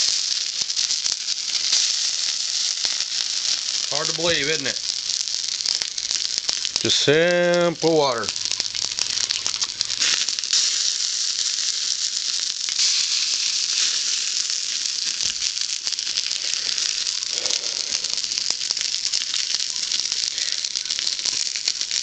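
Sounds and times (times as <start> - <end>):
tinder sizzling and crackling: 0.0 - 22.0.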